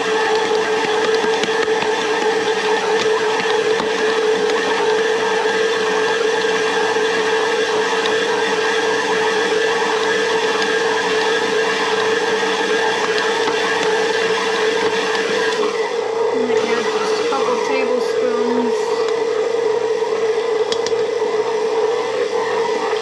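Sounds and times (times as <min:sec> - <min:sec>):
stand mixer motor hum: 0:00.0 - 0:23.0.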